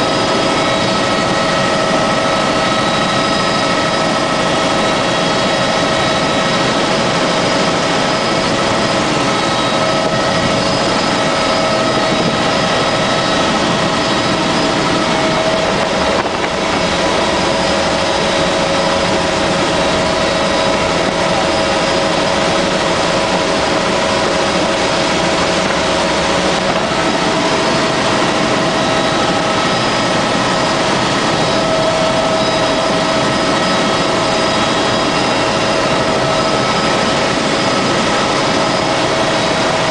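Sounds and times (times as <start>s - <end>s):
helicopter engine and rotor: 0.0s - 39.9s
steady whining tones: 0.0s - 39.9s.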